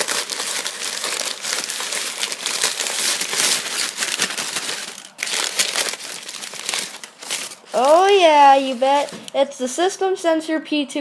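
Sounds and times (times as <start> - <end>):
packaging crinkling: 0.0 - 9.4.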